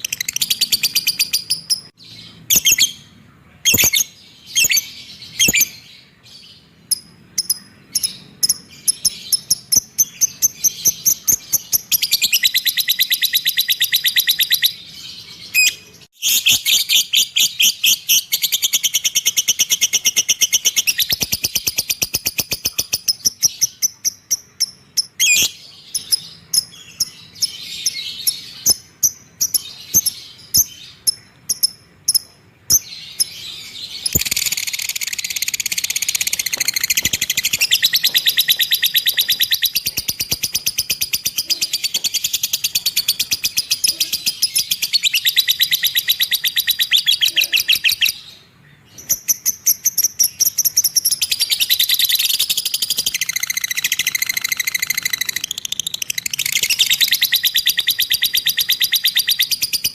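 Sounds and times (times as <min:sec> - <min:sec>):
bird chirping and chattering: 0:00.0 - 0:48.3, 0:48.9 - 0:59.9.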